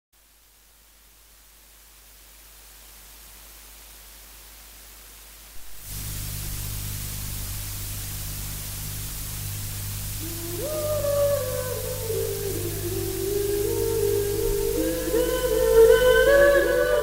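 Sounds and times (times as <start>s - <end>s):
low steady hum: 0.2s - 17.0s
steady hiss: 0.2s - 17.0s.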